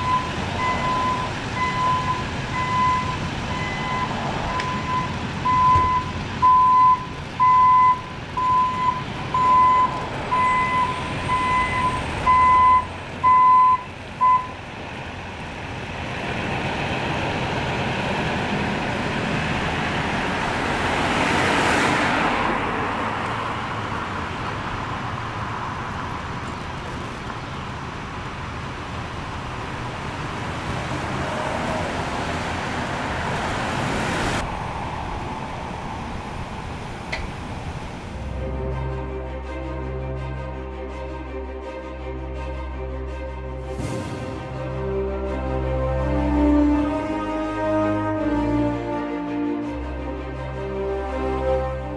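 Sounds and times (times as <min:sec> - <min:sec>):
vehicle passing: 0:00.0 - 0:13.4, 0:15.0 - 0:26.4, 0:29.3 - 0:51.9
steady traffic noise: 0:00.0 - 0:51.9.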